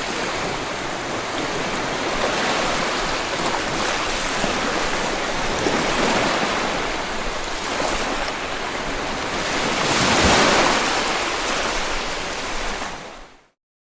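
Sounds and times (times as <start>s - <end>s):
ocean waves washing in: 0.0s - 13.5s.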